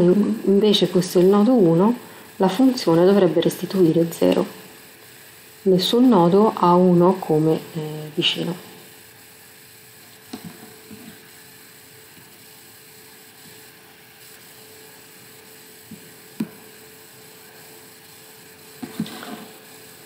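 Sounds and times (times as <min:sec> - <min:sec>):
electrical hum and hiss: 0:00.0 - 0:20.0.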